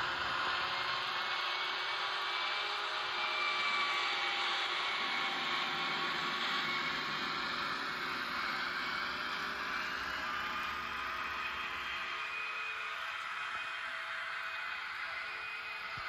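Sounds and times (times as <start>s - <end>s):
faint thin whine: 0.0s - 16.0s
model train motor whirring: 0.0s - 16.0s.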